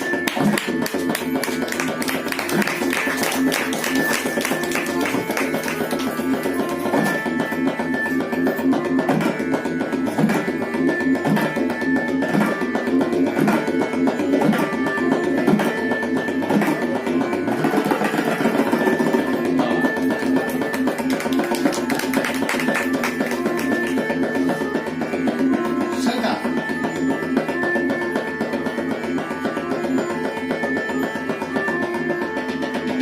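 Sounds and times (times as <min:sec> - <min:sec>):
repeated accompanying melody: 0:00.0 - 0:33.0
tabla strokes: 0:00.0 - 0:33.0.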